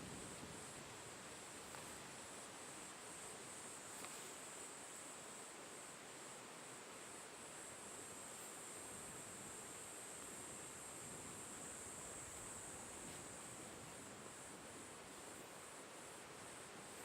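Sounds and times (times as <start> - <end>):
insect chorus: 0.0 - 17.0
wind rustling foliage: 0.0 - 17.0.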